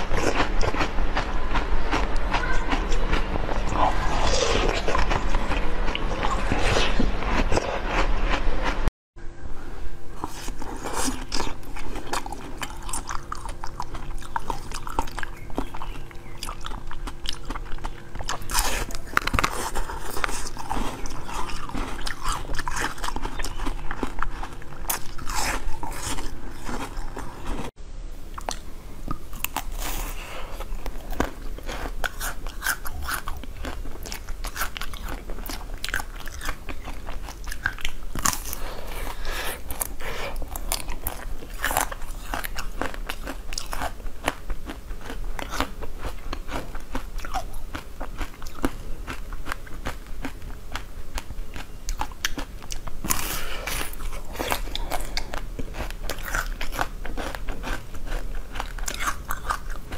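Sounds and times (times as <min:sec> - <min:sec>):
chewing: 0:00.0 - 0:08.8, 0:10.1 - 0:27.7, 0:28.3 - 0:59.9
biting frozen jelly cube: 0:10.1 - 0:27.7, 0:28.3 - 0:59.9
crunching frozen chocolate treat: 0:10.1 - 0:27.7, 0:28.3 - 0:59.9.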